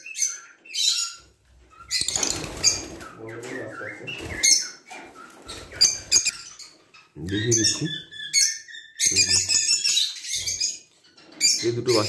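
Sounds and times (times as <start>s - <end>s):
lovebirds chirping and squawking: 0.0s - 12.0s.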